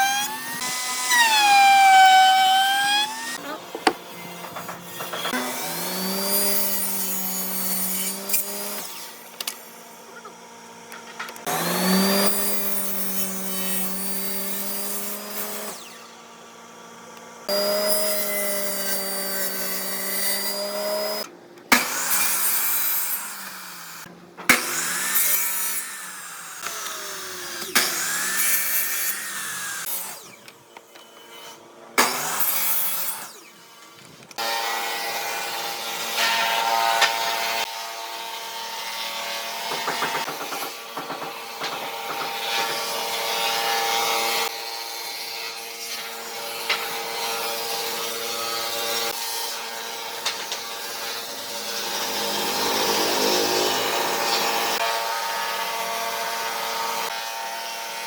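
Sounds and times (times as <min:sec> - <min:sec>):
power tool cutting wood: 0:00.0 - 0:58.0.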